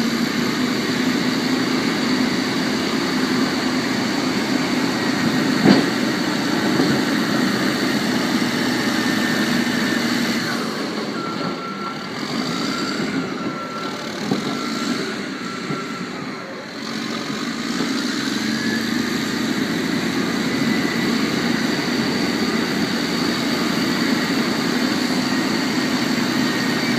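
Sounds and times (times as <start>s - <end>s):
bulldozer engine running: 0.0s - 26.9s.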